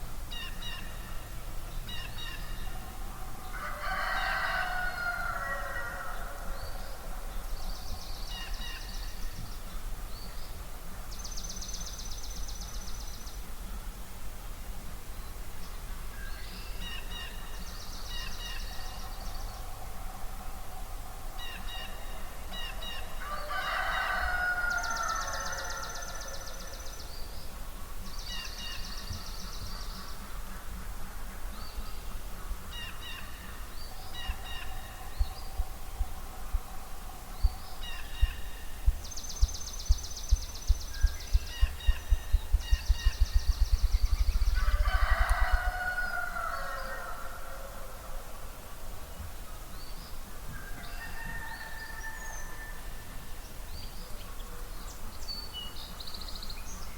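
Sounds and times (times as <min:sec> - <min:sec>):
songbirds singing: 0:00.0 - 0:13.9, 0:15.0 - 0:48.2, 0:49.0 - 0:56.9.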